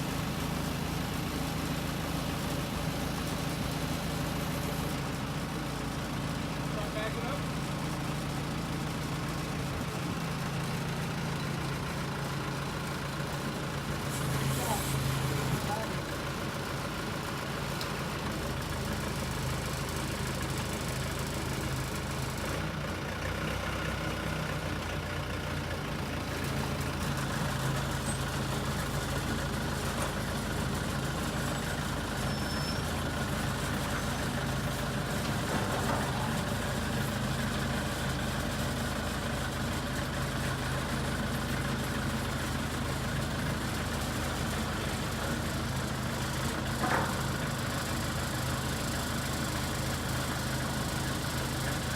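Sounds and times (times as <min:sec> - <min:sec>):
backhoe engine running: 0:00.0 - 0:51.9.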